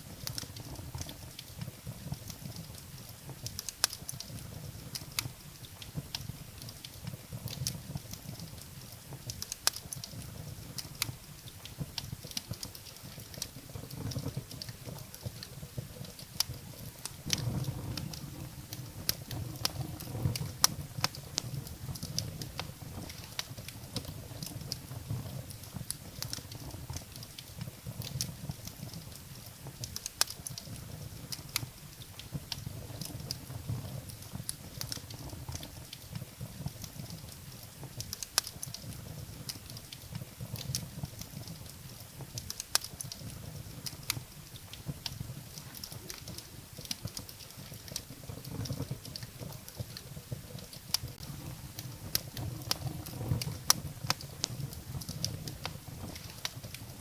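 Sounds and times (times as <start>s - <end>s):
firewood crackling and popping: 0.0s - 57.0s
low rumble of flames: 0.0s - 57.0s.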